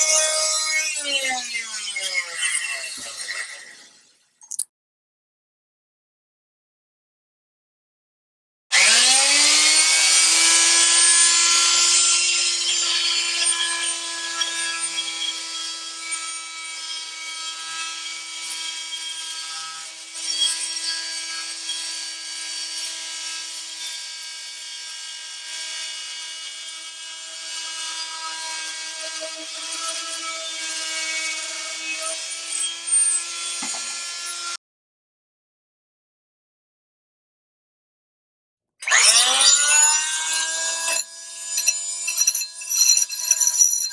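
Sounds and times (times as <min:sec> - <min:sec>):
oscillating multi-tool whine: 0:00.0 - 0:04.3, 0:08.7 - 0:34.6, 0:38.8 - 0:43.9.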